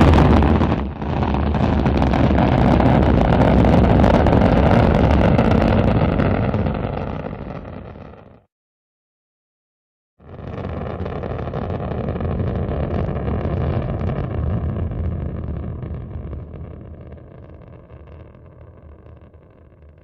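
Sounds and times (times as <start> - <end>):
rocket engines rumbling: 0.0 - 8.1, 10.5 - 20.0.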